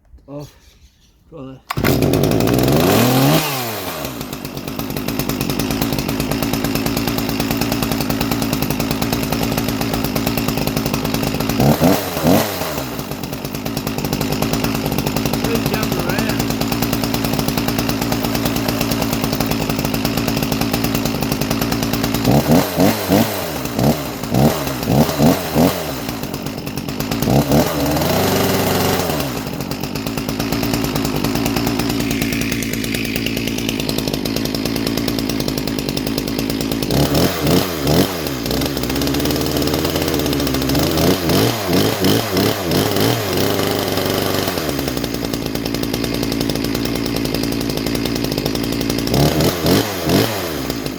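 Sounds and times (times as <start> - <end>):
chainsaw idling: 1.6 - 50.9
chainsaw revving: 1.6 - 50.9.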